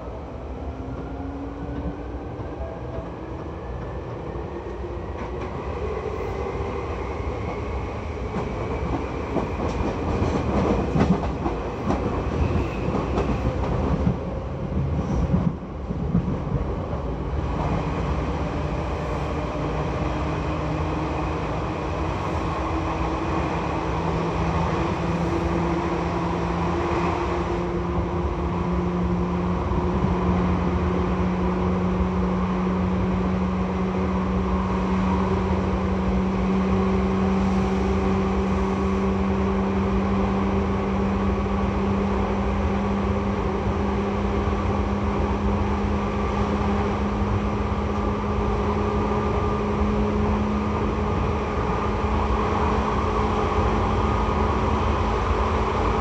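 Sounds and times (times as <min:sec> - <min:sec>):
train wheel and rail rumble: 0:00.0 - 0:56.0.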